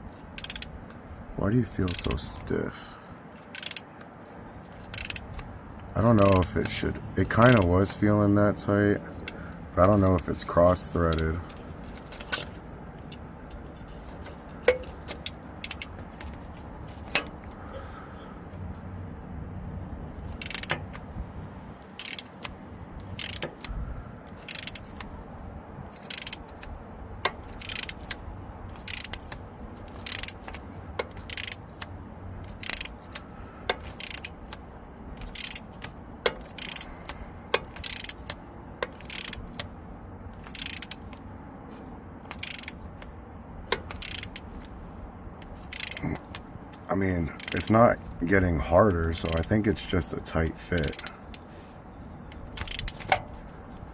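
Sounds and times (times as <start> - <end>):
ratchet wrench clicking: 0.1 - 2.5, 3.3 - 8.3, 9.0 - 18.7, 20.2 - 51.5, 52.3 - 53.9.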